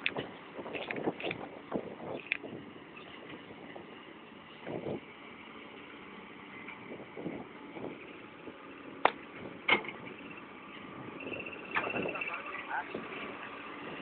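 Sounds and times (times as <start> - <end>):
distant heavy machinery rumble: 0.0 - 14.0.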